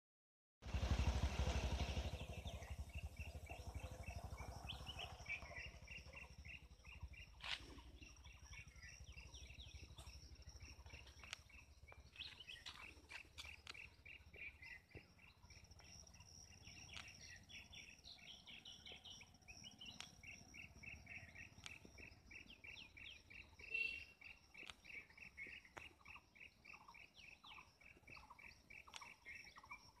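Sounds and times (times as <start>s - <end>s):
birds chirping: 1.7s - 30.0s.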